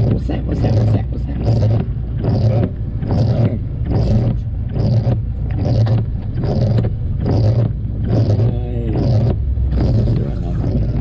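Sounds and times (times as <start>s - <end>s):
car engine and road hum: 0.0s - 11.0s
heavy rain on car: 1.7s - 11.0s.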